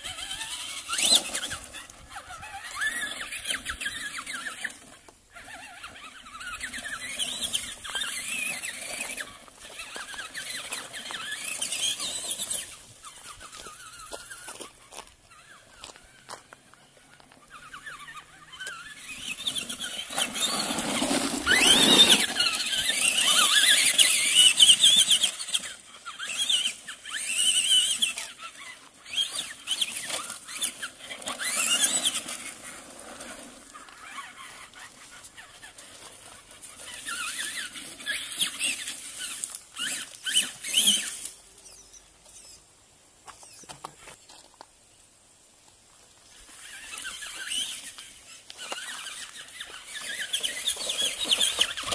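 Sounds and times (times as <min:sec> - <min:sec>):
toy truck electric motor whining: 0:00.0 - 0:42.7, 0:46.2 - 0:51.9
tyres over gravel: 0:00.0 - 0:51.9.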